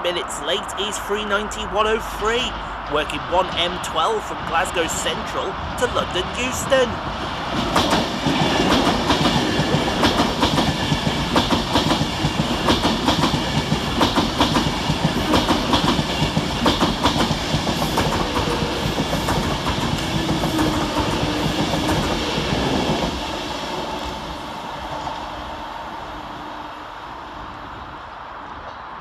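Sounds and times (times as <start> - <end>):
rush of train carriages passing: 0.0 - 29.0.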